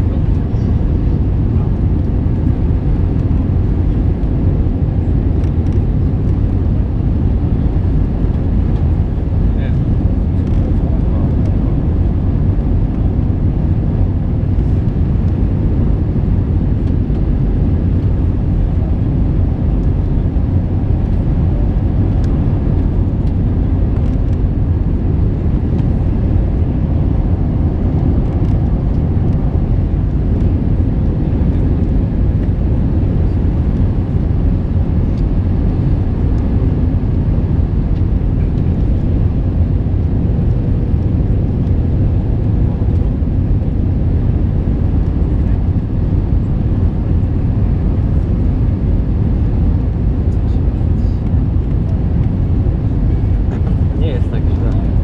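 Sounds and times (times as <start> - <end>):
airliner rumble in flight: 0.0 - 55.0.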